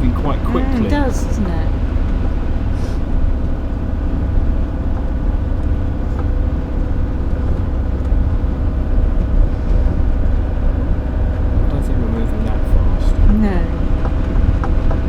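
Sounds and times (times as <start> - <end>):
engine drone: 0.0 - 15.0
low road rumble: 0.0 - 15.0.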